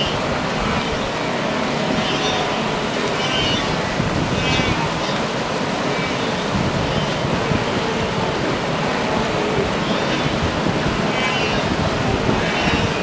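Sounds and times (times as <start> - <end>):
herd splashing across river: 0.0 - 13.0
wind buffeting microphone: 0.0 - 13.0.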